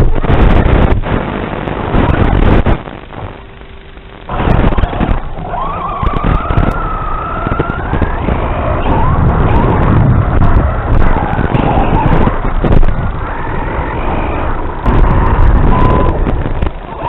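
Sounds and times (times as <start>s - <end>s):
steady rumble: 0.0s - 17.0s.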